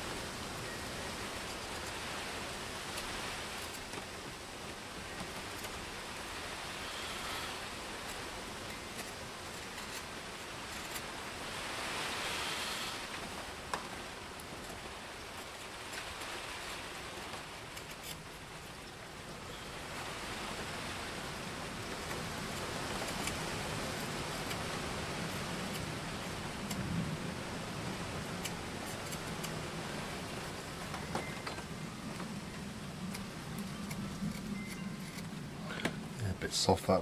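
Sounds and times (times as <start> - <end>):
wind and rain: 0.0 - 37.0.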